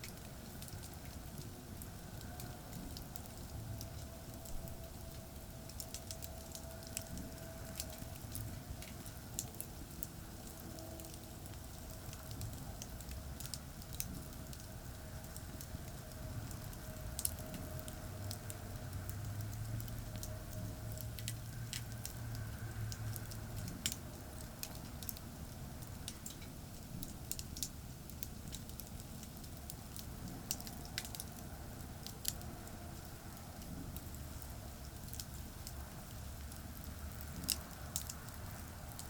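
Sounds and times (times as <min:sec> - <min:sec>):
campfire crackling and popping: 0:00.0 - 0:39.0
low rumble of traffic: 0:00.0 - 0:39.0.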